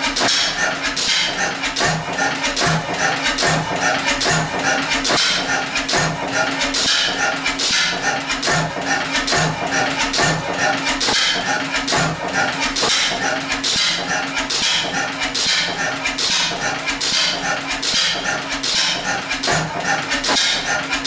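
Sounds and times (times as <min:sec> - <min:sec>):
gas engine clattering: 0:00.0 - 0:21.0.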